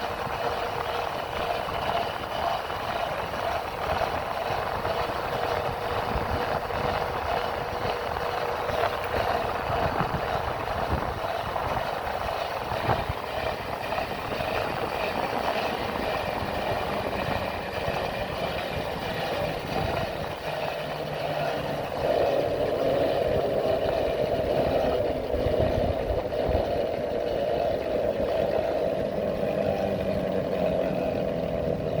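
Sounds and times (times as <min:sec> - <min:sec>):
motorcycle engine running: 0:00.0 - 0:32.0
wind rumbling on microphone: 0:00.0 - 0:32.0.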